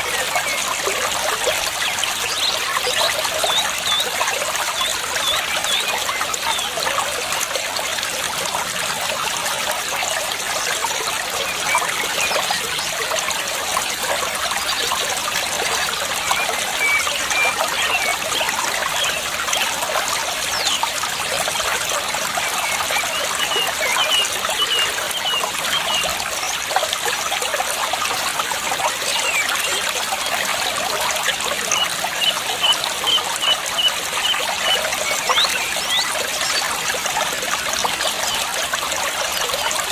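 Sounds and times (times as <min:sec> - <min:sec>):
water babbling over stones: 0:00.0 - 0:39.9.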